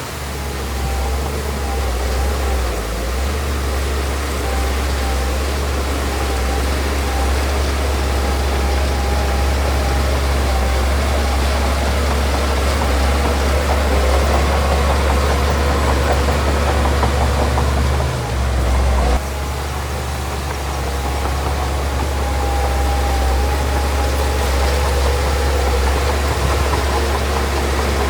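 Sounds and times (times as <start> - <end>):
heavy diesel engine rumbling: 0.0 - 28.0.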